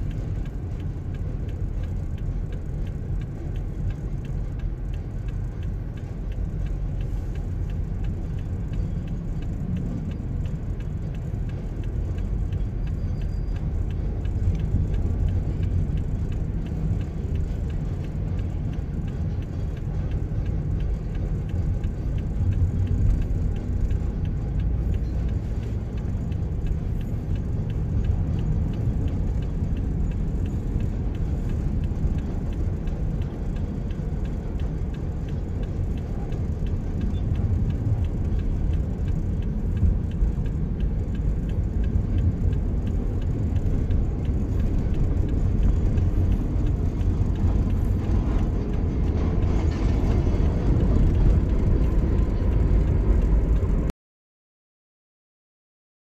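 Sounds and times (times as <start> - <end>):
car engine and road noise: 0.0 - 53.9.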